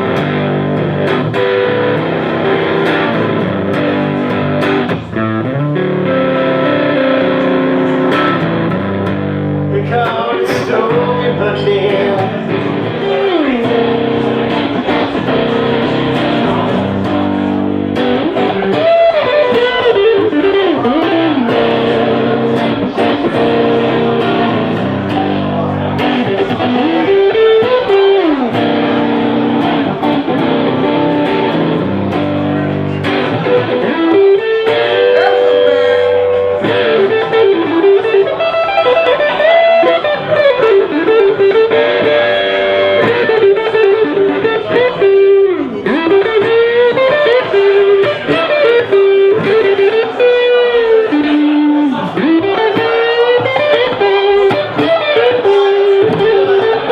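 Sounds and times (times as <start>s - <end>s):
blues band accompaniment: 0.0s - 56.9s
electric guitar lead with bends: 0.0s - 56.9s.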